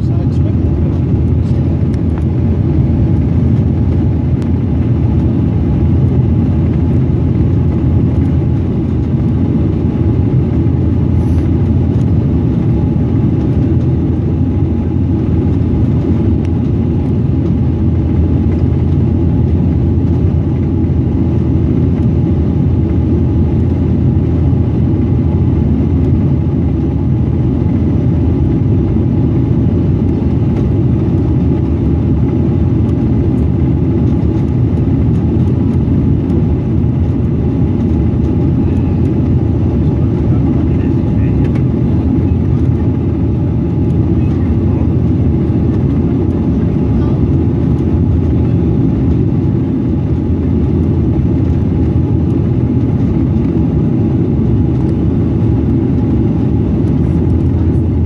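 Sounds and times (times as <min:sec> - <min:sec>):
turboprop engines droning in cabin: 0:00.0 - 0:58.0.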